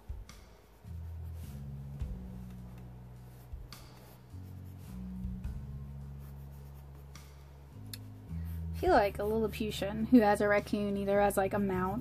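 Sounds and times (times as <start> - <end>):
quiet background music: 0.0 - 12.0
pencil scratching on paper: 0.7 - 10.3.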